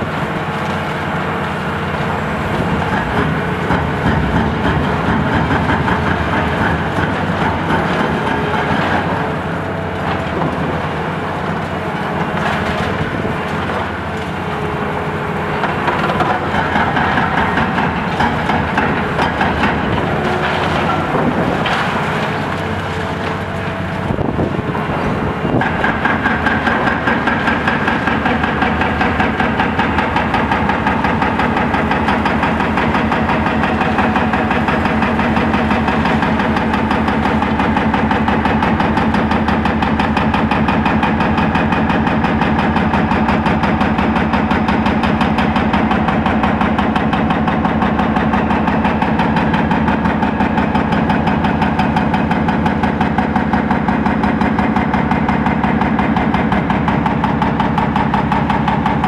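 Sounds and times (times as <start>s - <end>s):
diesel excavator engine running: 0.0s - 59.0s.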